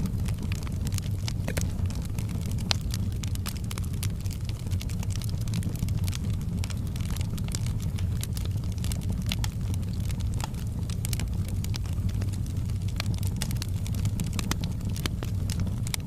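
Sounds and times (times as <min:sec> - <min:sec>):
fire low rumble: 0:00.0 - 0:16.0
wood fire crackling and popping: 0:00.0 - 0:16.0.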